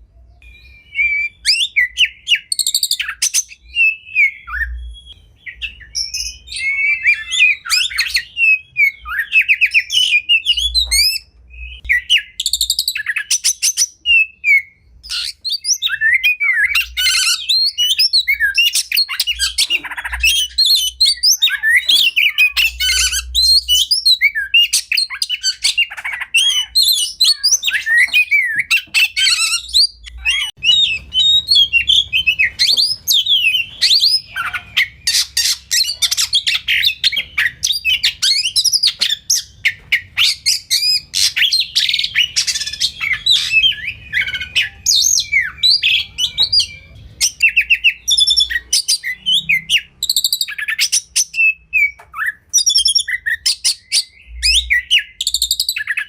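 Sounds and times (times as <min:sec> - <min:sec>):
songbird singing varied song: 0:00.1 - 0:56.0.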